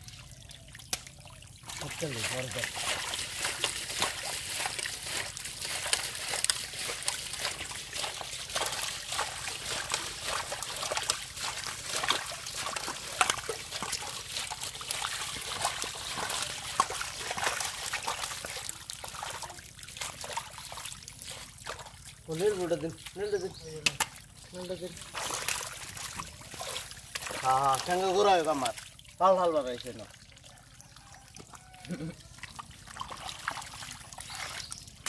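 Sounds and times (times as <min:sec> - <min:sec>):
fish splashing in muddy water: 0:00.0 - 0:29.2, 0:30.1 - 0:35.0.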